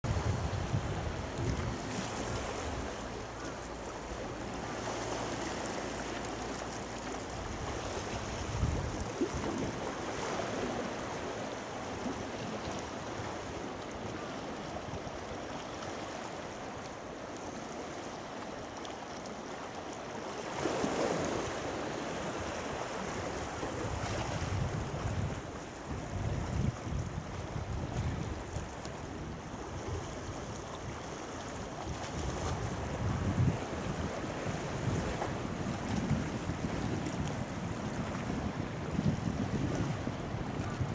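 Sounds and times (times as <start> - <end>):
wind rumbling on microphone: 0.0 - 16.1, 20.6 - 40.9.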